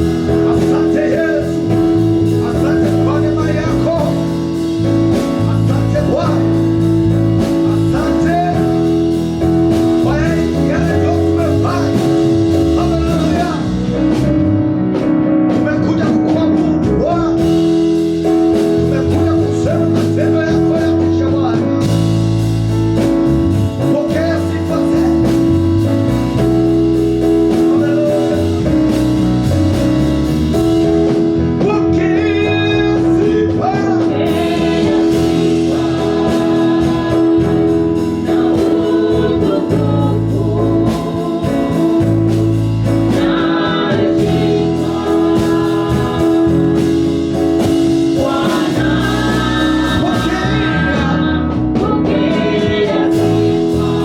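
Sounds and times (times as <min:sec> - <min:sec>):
gospel music with voices singing: 0:00.0 - 0:54.0.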